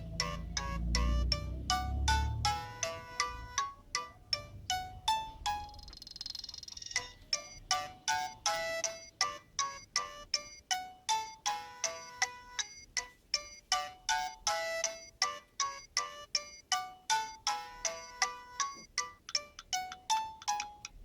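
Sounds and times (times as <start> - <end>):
polyphonic phone ringtone: 0.0 - 21.0.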